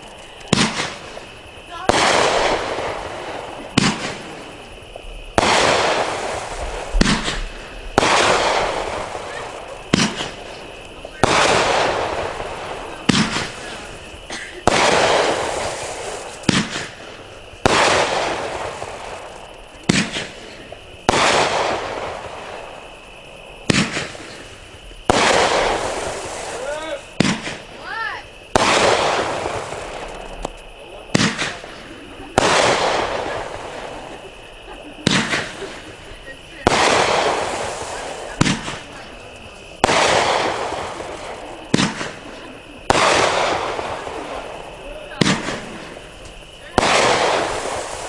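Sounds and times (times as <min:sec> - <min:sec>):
firework bangs with hiss: 0:00.0 - 0:48.0.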